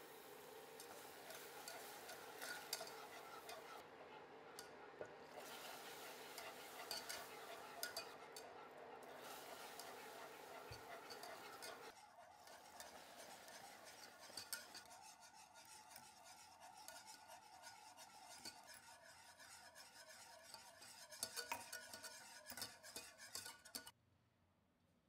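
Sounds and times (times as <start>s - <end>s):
whisk scraping a saucepan: 0.0s - 24.0s.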